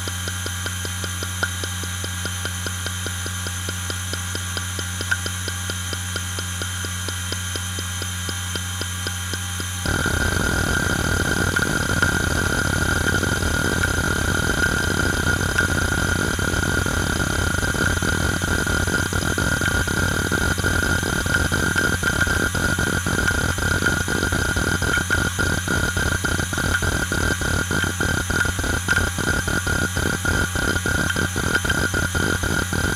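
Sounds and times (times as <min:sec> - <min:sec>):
hard drive hum and whine: 0:00.0 - 0:32.9.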